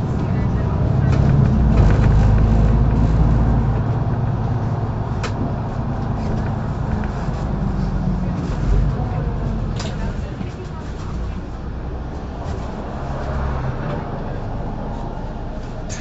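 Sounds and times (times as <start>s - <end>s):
bus diesel engine: 0.0s - 16.0s
road noise: 0.0s - 16.0s.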